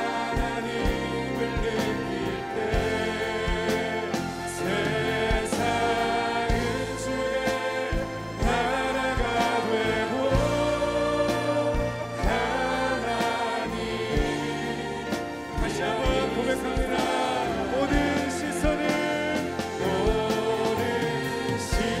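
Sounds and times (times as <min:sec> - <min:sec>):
drum kit beat: 0:00.0 - 0:22.0
man and woman singing: 0:00.0 - 0:22.0.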